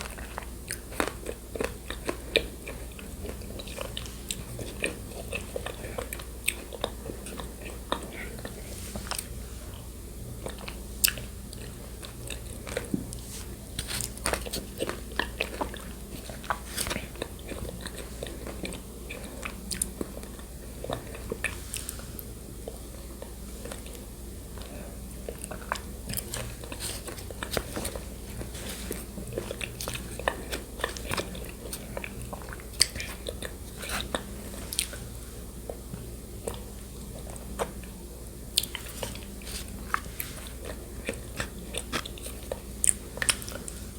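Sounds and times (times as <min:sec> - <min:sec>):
chewing and swallowing: 0:00.0 - 0:43.9
low microphone hum: 0:00.0 - 0:43.9.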